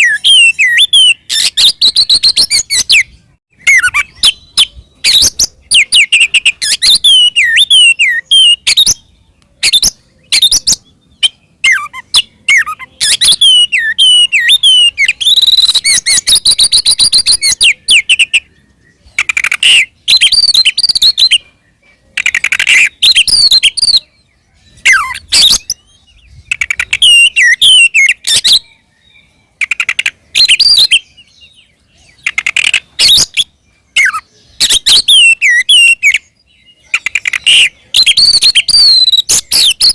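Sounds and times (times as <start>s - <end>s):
bird singing sliding whistles: 0.0s - 18.5s, 19.2s - 21.4s, 22.2s - 24.1s, 24.7s - 28.8s, 29.7s - 31.0s, 32.2s - 36.3s, 37.0s - 39.9s.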